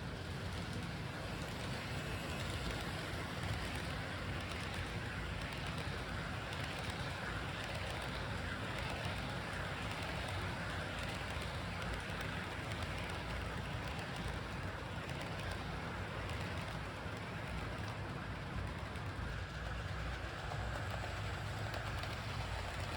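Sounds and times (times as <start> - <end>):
model train motor whirring: 0.0 - 22.9
wheels rumbling on rails: 0.0 - 22.9.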